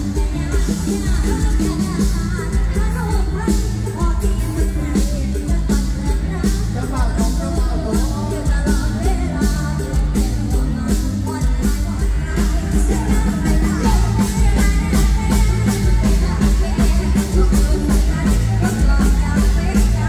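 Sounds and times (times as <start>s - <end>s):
amplified band with driving drums: 0.0s - 20.0s
person singing: 0.0s - 20.0s.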